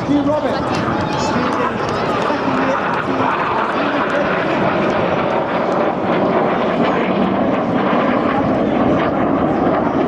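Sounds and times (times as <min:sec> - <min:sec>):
jets flying overhead: 0:00.0 - 0:10.0.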